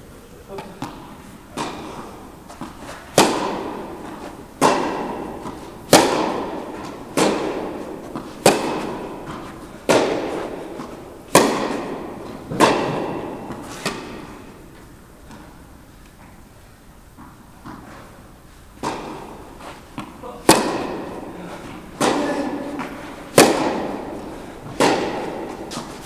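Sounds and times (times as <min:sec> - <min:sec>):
tennis balls struck by racquets: 0:00.5 - 0:26.0.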